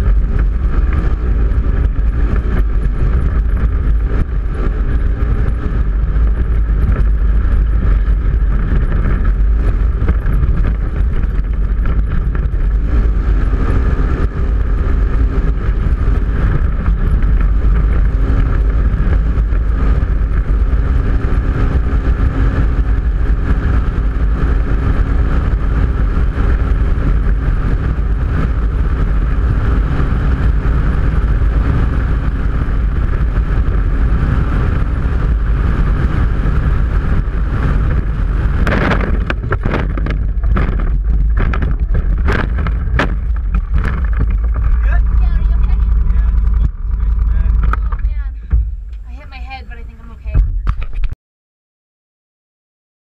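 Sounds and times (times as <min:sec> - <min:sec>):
vehicle engine running loud: 0:00.0 - 0:50.8
deep rumble: 0:00.0 - 0:51.2.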